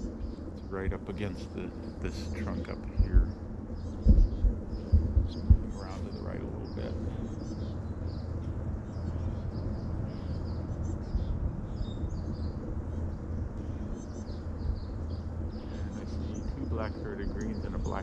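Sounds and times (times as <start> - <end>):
songbirds chipping and twittering: 0.0 - 18.0
steady low rumble: 0.0 - 18.0.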